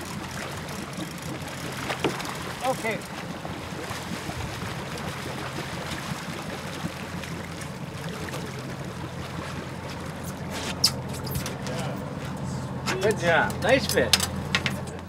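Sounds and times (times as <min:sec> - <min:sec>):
boat engine humming: 0:00.0 - 0:15.0
water sloshing against hull: 0:00.0 - 0:15.0.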